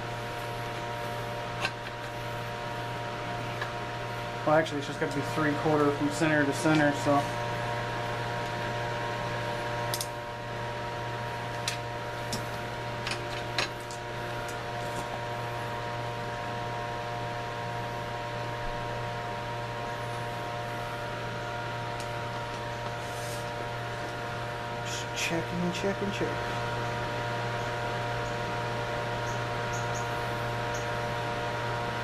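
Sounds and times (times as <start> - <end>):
mechanical hum of shop equipment: 0.0 - 32.0.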